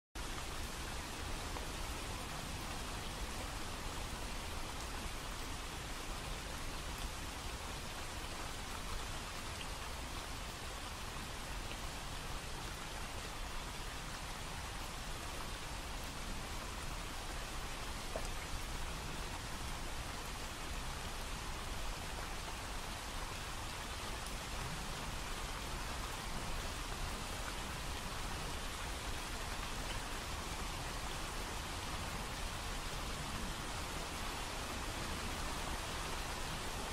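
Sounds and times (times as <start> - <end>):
steady rain: 0.2 - 36.9.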